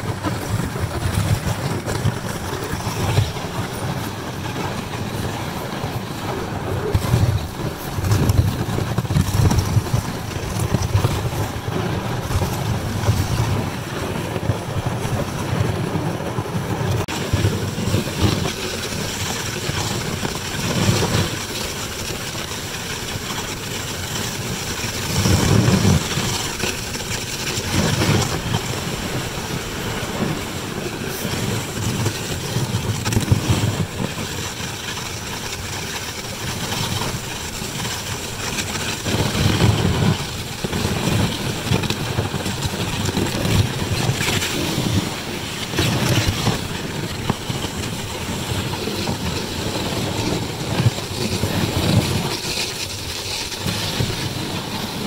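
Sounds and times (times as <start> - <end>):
sled runners hissing on snow: 0.0 - 55.0
wind buffeting the microphone: 0.0 - 55.0.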